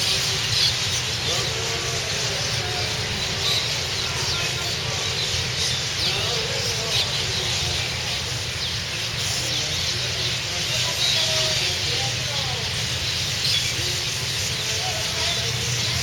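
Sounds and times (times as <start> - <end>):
flock of small birds chirping: 0.0 - 16.0.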